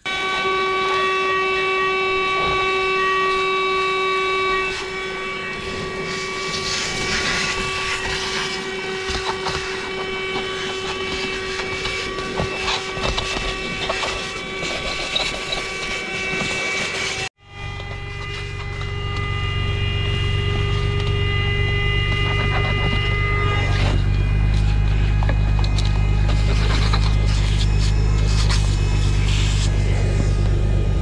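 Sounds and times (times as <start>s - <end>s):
handheld vacuum motor whining: 0.0s - 31.0s
debris crackling in vacuum: 0.1s - 31.0s.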